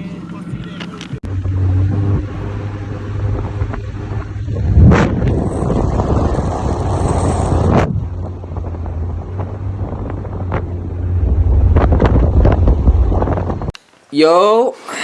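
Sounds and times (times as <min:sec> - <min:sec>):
road rumble of moving car: 0:00.0 - 0:13.8
wind buffeting microphone: 0:01.4 - 0:13.8.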